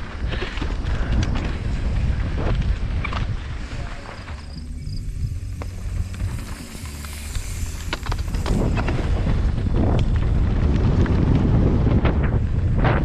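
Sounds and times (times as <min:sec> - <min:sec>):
mountain bike clicking and rattling: 0:00.0 - 0:13.0
wind rushing over microphone: 0:00.0 - 0:13.0.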